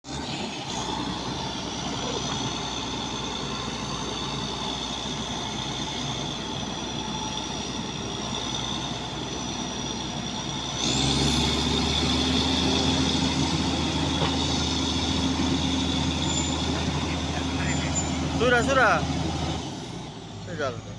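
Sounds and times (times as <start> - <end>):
bulldozer diesel engine with whine: 0.0 - 20.9.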